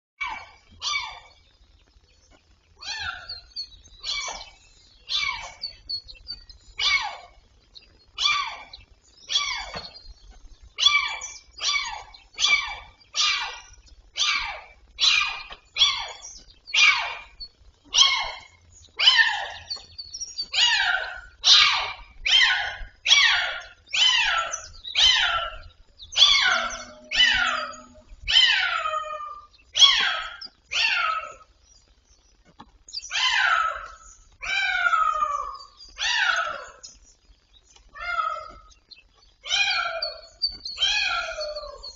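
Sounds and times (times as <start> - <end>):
animal crying: 0.2 - 1.4, 2.8 - 5.8, 6.8 - 7.4, 8.1 - 10.0, 10.8 - 19.9, 20.5 - 31.5, 33.1 - 36.9, 37.9 - 38.8, 39.4 - 41.9.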